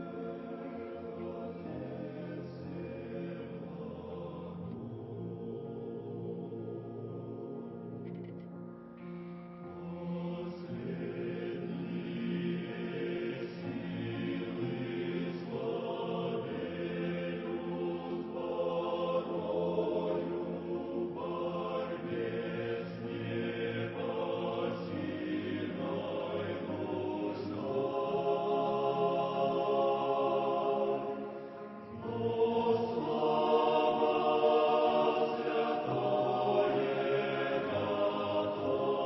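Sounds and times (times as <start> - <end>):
choir singing a hymn: 0.0 - 39.0.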